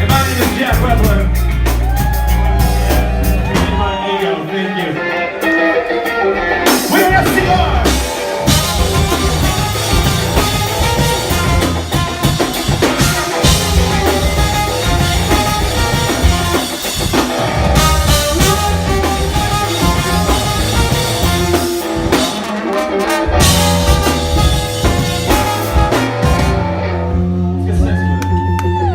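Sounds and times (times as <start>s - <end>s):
drum kit: 0.0s - 4.0s, 5.4s - 27.4s
horns: 0.0s - 28.4s.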